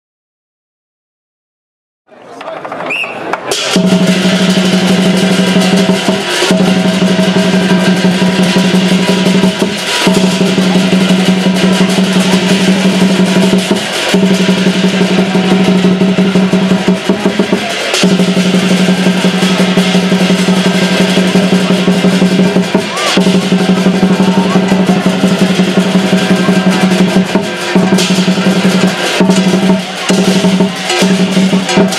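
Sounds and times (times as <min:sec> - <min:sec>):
drum rapid roll: 0:03.5 - 0:31.9.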